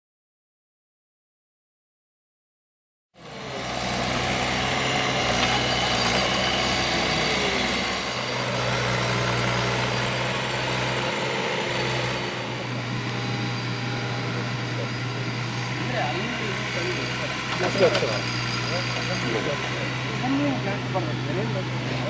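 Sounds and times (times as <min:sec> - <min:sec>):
diesel engine running: 0:03.2 - 0:22.0.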